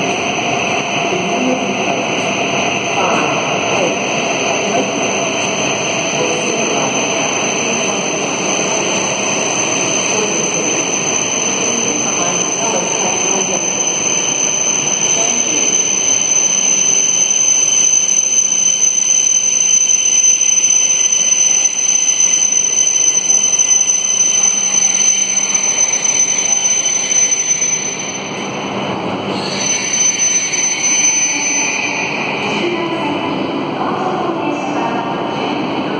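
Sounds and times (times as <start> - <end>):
high constant train whine: 0.0 - 35.9
train running noise: 0.0 - 35.9.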